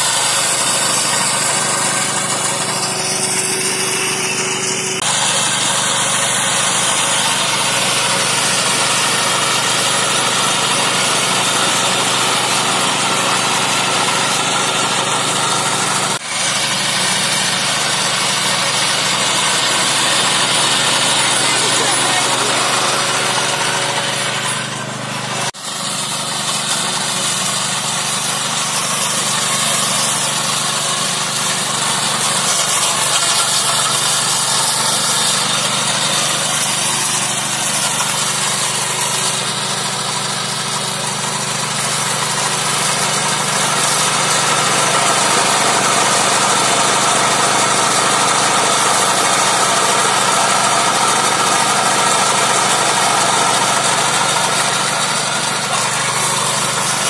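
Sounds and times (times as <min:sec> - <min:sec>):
small petrol engine under load: 0:00.0 - 0:57.0.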